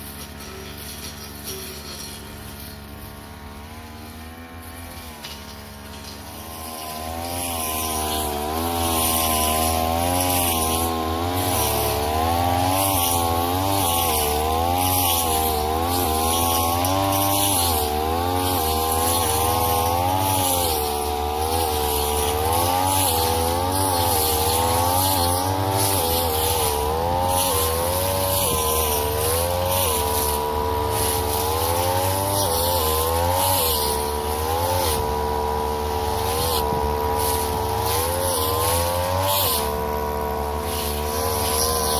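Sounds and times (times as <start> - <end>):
brush cutter engine running: 0.0 - 41.9.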